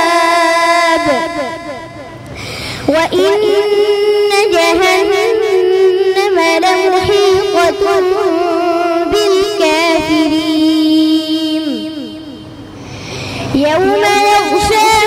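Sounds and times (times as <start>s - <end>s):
boy reciting melodically: 0.0s - 15.0s.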